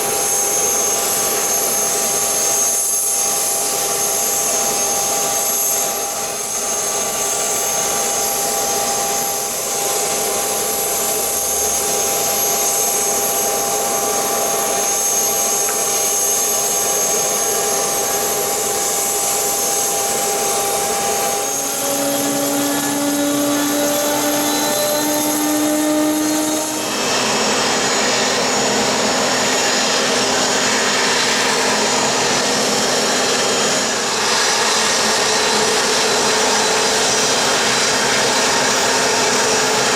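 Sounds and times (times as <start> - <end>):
jet engines running: 0.0 - 39.9
lower whine: 0.0 - 39.9.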